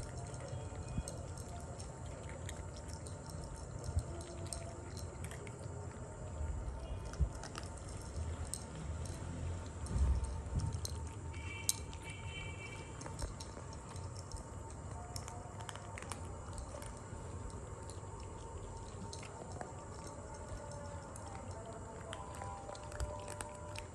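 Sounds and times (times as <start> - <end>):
kittens chewing food: 0.0 - 23.9.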